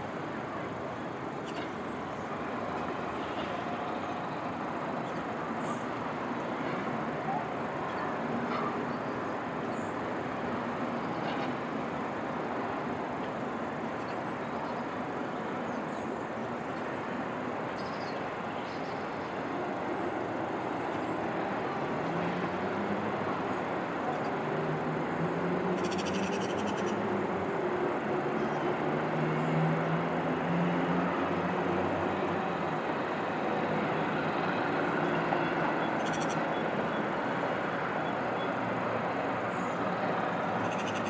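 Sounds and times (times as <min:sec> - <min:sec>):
distant city traffic: 0:00.0 - 0:41.0.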